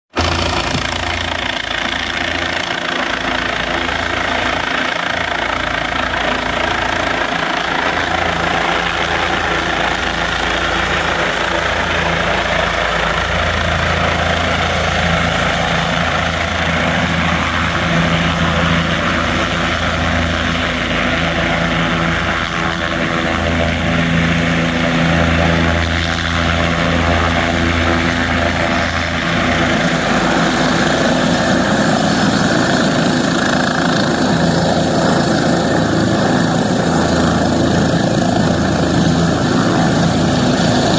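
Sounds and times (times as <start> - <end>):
helicopter rotor and engine: 0.1 - 40.9.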